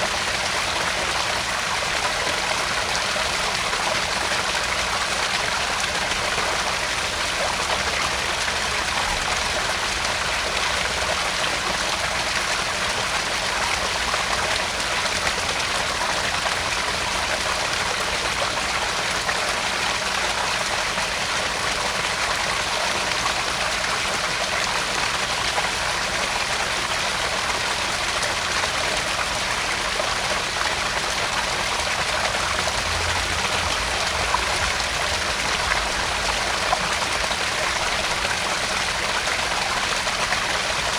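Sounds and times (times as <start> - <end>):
waterfall splashing into pond: 0.0 - 40.9.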